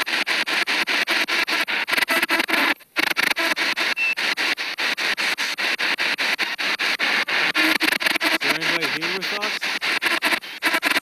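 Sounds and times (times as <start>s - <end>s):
radio static and chopped fragments: 0.0s - 11.0s.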